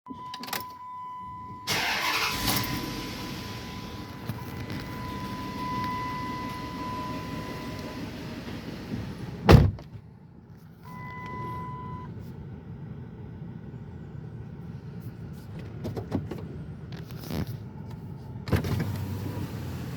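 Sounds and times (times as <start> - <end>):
car engine starting and idling: 0.6 - 19.9.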